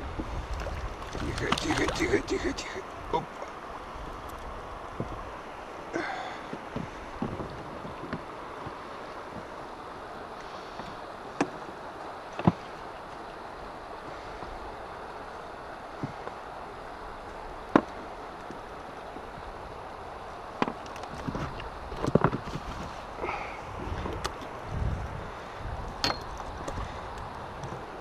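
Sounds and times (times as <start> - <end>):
river water running: 0.0 - 28.0.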